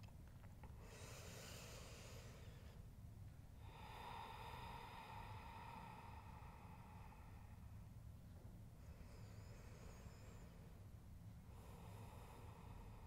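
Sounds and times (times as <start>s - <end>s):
slow deep breathing: 0.6s - 13.0s.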